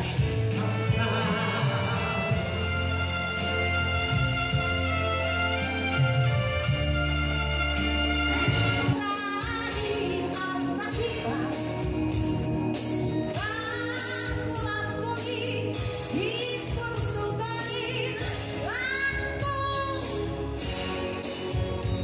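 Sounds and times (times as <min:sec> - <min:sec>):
pop-rock band: 0:00.0 - 0:22.0.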